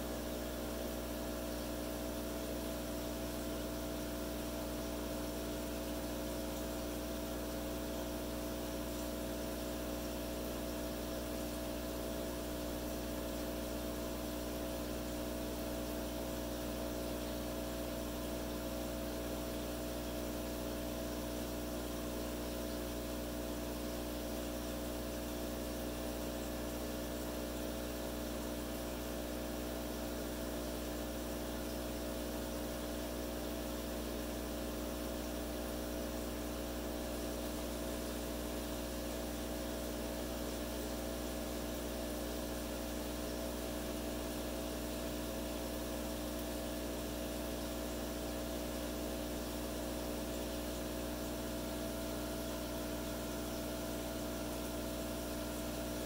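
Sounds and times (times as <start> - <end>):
aquarium pump humming: 0.0 - 56.0.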